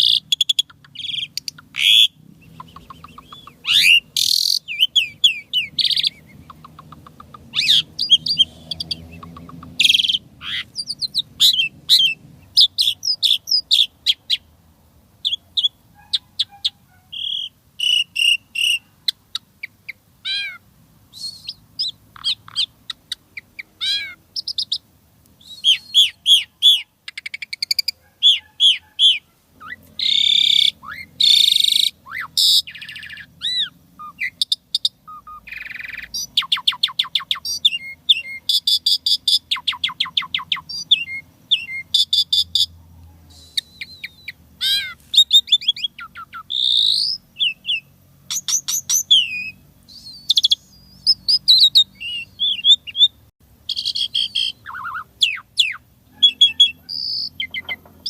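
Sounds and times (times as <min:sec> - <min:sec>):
starling singing: 0:00.0 - 0:14.5, 0:15.2 - 0:58.0.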